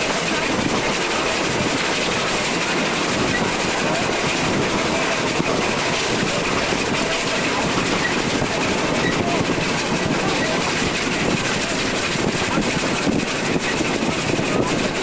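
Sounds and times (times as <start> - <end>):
train wheels rattling on rails: 0.0 - 15.0.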